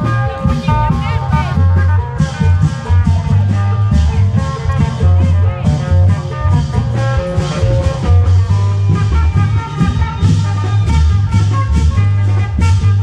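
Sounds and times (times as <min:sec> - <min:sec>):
amplified plucked-string melody: 0:00.0 - 0:13.0
deep drum beats: 0:00.0 - 0:13.0.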